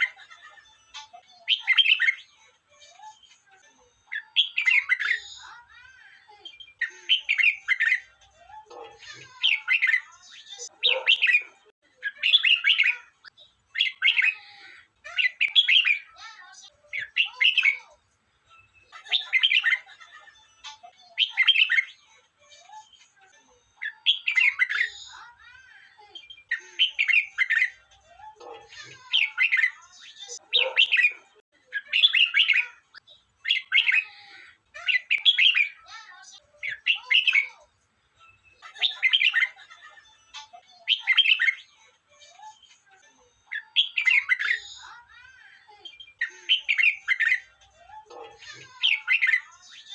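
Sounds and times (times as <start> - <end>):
bird singing warbled phrases: 0.0 - 49.9.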